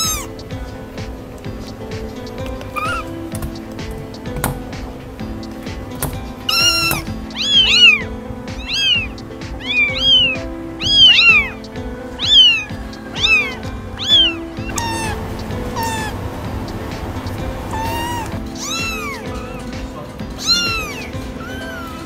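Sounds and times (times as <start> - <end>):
background music: 0.0 - 22.0
kittens mewing: 0.0 - 22.0.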